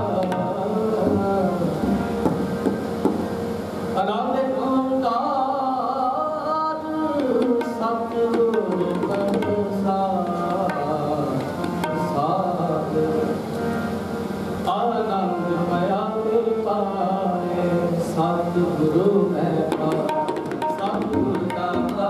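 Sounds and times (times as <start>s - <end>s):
person singing a hymn: 0.0s - 2.5s, 4.0s - 14.0s, 14.6s - 20.2s
tabla: 0.0s - 22.0s.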